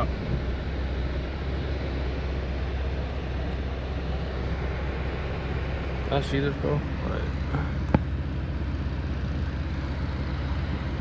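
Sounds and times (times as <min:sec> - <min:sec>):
car engine droning: 0:00.0 - 0:11.0
tyre and road noise: 0:00.0 - 0:11.0.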